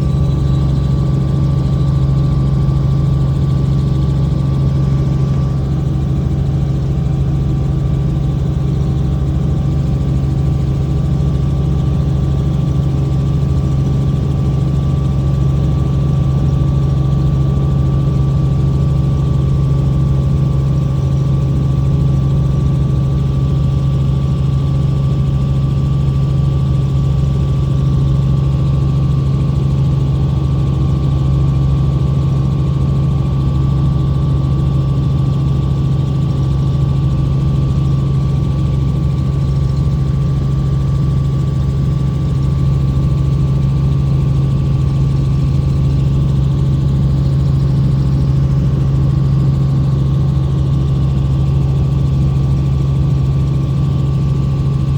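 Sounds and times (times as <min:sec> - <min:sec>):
helicopter rotor and engine hum: 0:00.0 - 0:54.9.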